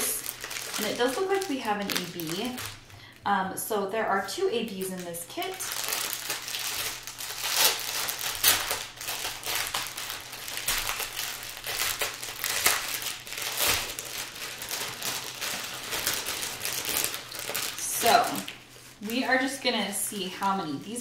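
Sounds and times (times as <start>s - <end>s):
plastic bags crinkling: 0.0s - 3.4s, 4.1s - 20.8s.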